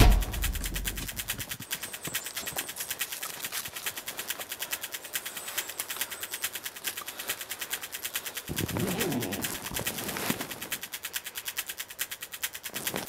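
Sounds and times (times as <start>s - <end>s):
rapid even ticking: 0.0s - 13.0s.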